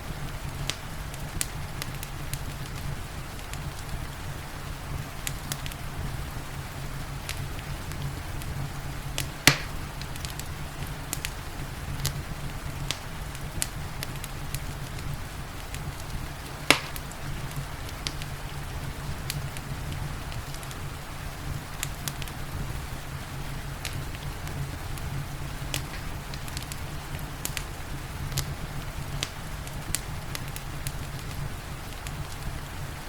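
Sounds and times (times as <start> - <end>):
soft rain: 0.0 - 33.0
steady low rumble: 0.0 - 33.0
wood fire crackling: 0.0 - 33.0
sharp fire pops: 0.1 - 4.2, 5.2 - 6.1, 7.0 - 20.9, 21.5 - 22.7, 23.6 - 32.8.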